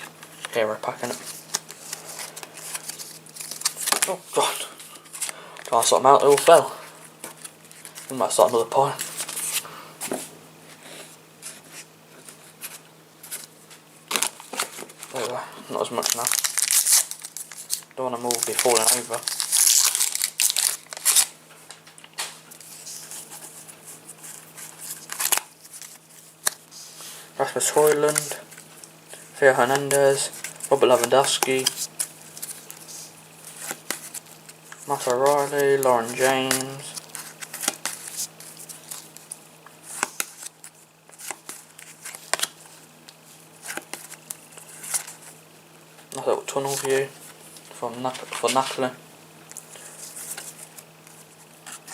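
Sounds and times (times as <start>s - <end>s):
trading cards rustling: 0.0s - 45.4s, 46.1s - 48.9s, 49.5s - 51.9s.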